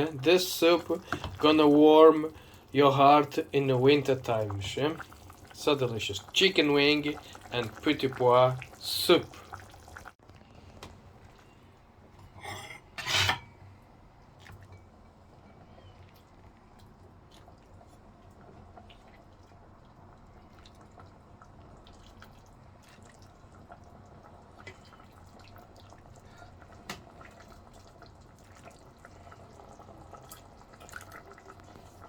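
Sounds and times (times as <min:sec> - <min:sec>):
soup bubbling in a pot: 0:00.0 - 0:12.4, 0:13.1 - 0:32.0.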